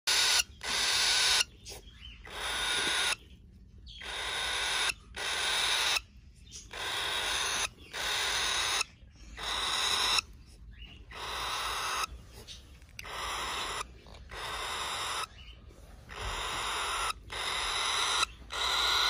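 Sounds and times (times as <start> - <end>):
bird chicks giving raspy hissing calls: 0.1 - 3.3, 3.9 - 19.0.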